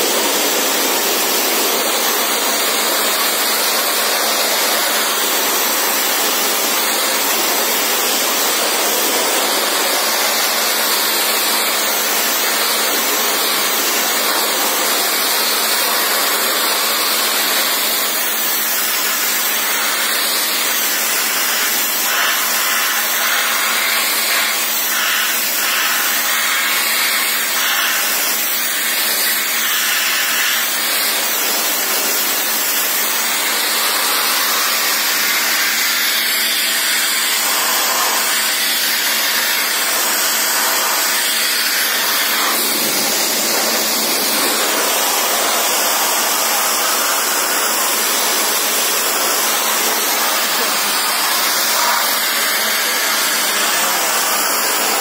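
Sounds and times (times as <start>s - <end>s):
pressure washer jet hissing: 0.0s - 55.0s.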